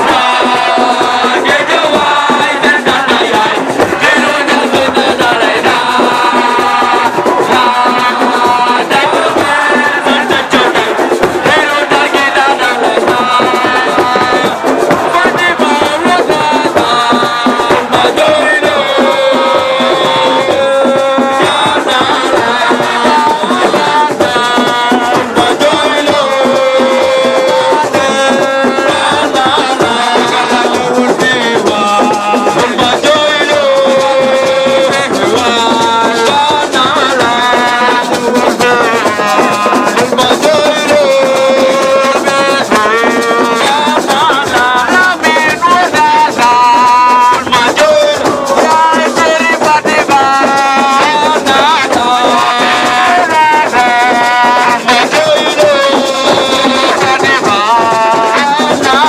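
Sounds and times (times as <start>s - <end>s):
fast percussion with rattles: 0.0s - 59.0s.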